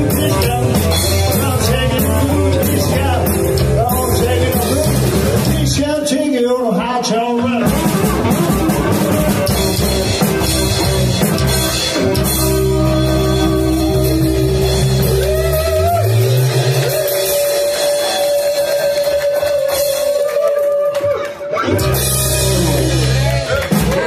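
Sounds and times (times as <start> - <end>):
electric guitar: 0.0 - 6.1, 7.0 - 24.0
drum kit: 0.0 - 6.2, 7.0 - 24.0
upright bass: 0.0 - 20.6, 21.5 - 24.0.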